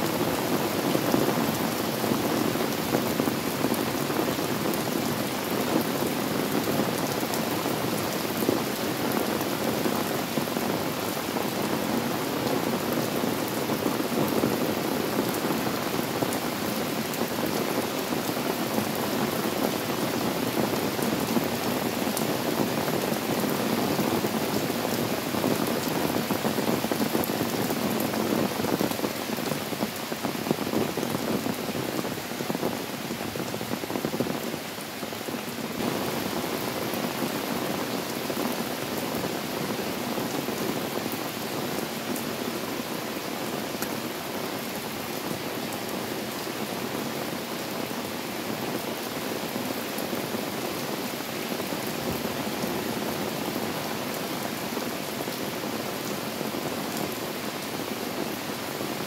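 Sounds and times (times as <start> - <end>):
rain on wet paving and plants: 0.0 - 59.0.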